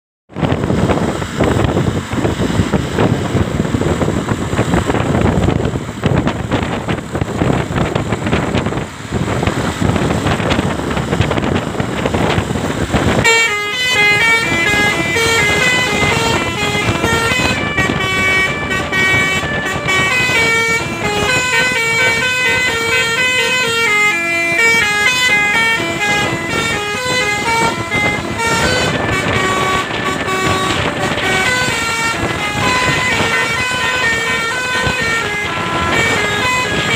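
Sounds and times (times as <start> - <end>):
loud steady noise: 0.3 - 36.9
multi-tone bus horn tune: 4.6 - 36.9.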